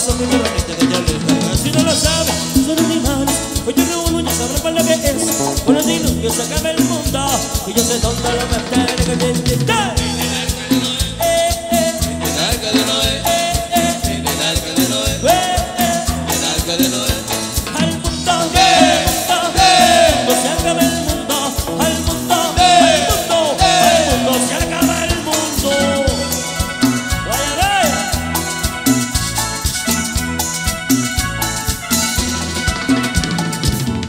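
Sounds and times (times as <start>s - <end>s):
latin dance band playing: 0.0s - 34.0s.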